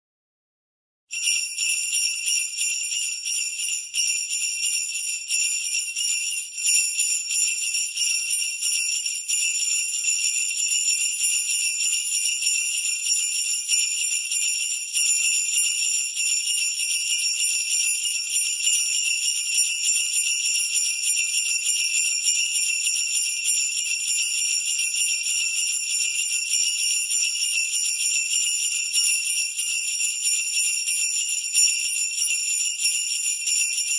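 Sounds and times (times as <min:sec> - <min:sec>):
sleigh bells jingling: 0:01.1 - 0:33.9.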